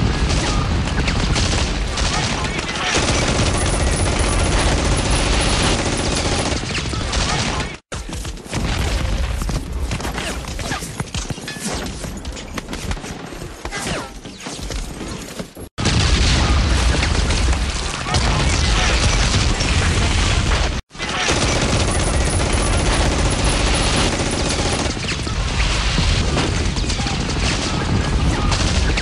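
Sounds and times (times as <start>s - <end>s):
rapid gunfire: 0.0s - 11.4s, 15.8s - 29.0s.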